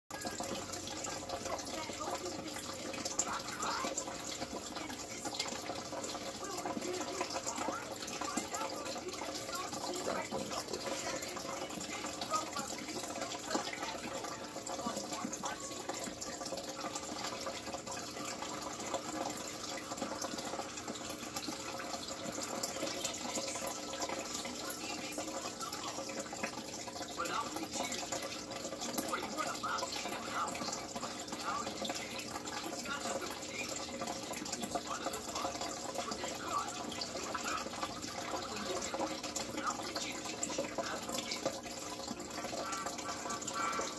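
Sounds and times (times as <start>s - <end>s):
water trickling and splashing into tank: 0.1s - 43.9s.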